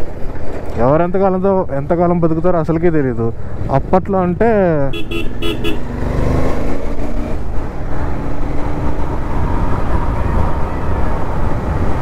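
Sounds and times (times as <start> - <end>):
road noise rushing: 0.0 - 12.0.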